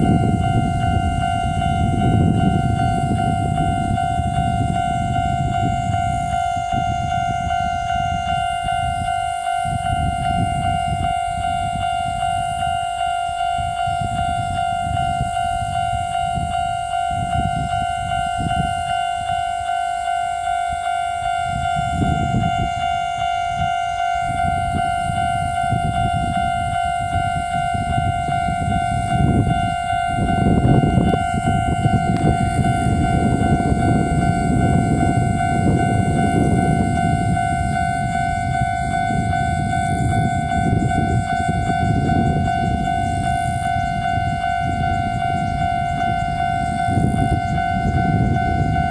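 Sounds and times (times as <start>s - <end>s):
level crossing warning bell dinging: 0.0s - 48.9s
train wheels rumbling on rails: 0.0s - 48.9s.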